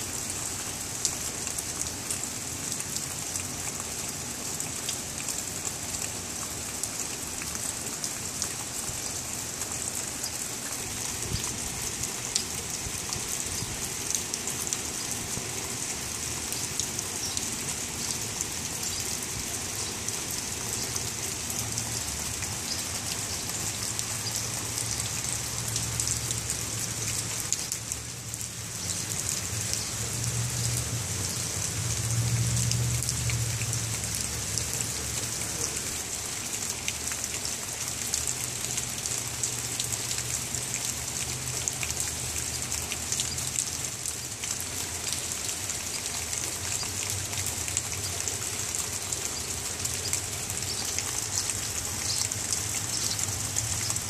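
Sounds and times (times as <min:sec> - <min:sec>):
steady rain falling: 0:00.0 - 0:54.0
close raindrop ticks: 0:00.9 - 0:54.0.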